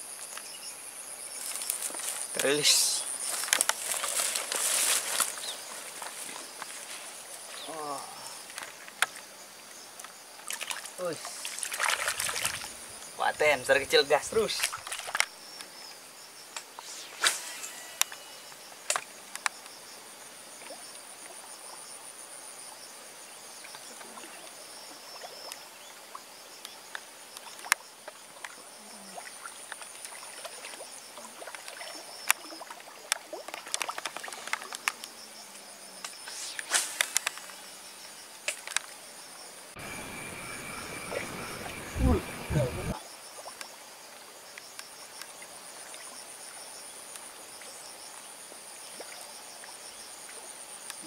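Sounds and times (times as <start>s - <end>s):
frogs calling: 0.0s - 22.0s, 23.4s - 46.9s
hiss with steady tone: 0.0s - 33.1s, 34.4s - 51.0s
insects chirping: 0.0s - 51.0s.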